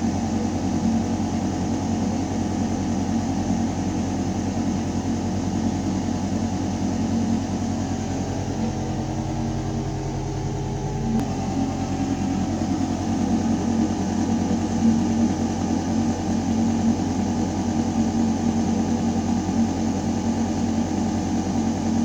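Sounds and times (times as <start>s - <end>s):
ventilation shaft hum: 0.0s - 22.0s.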